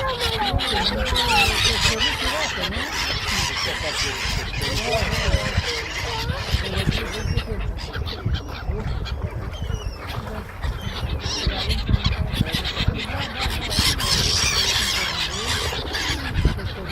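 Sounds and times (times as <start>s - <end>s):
ducks honking: 0.0s - 16.9s
seagulls calling: 0.0s - 16.9s.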